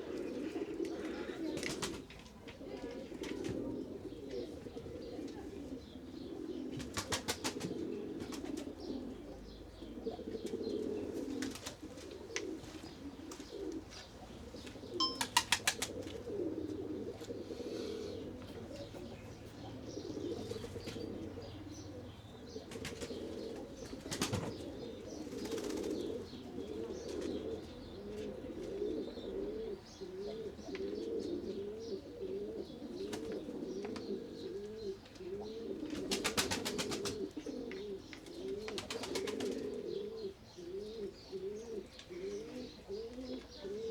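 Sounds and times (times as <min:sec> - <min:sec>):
pigeons cooing: 0:00.0 - 0:43.9.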